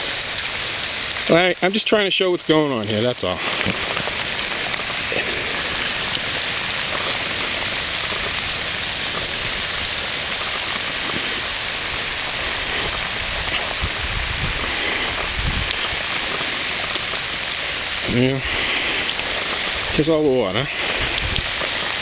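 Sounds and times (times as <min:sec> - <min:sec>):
rushing water hiss: 0:00.0 - 0:22.0.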